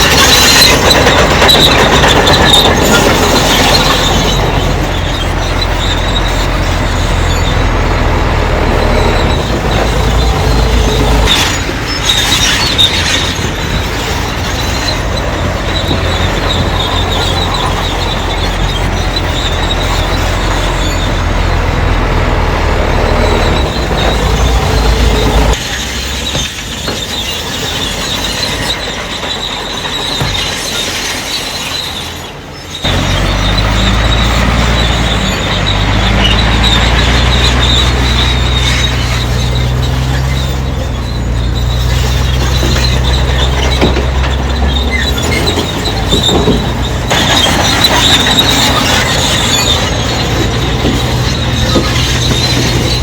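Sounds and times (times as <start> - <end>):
diesel engine humming: 0.0 - 29.9, 31.2 - 53.0
steel tracks squealing: 0.0 - 53.0.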